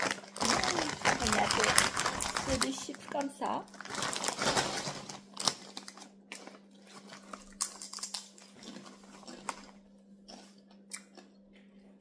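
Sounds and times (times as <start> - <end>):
chewing potato chips: 0.0 - 12.0.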